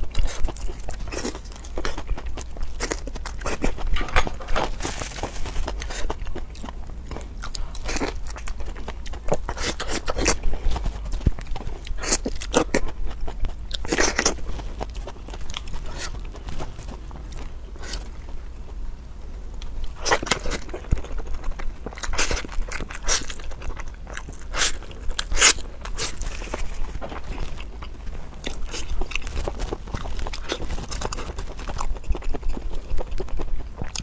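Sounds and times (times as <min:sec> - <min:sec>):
chewing and biting: 0:00.0 - 0:18.8, 0:19.6 - 0:34.0.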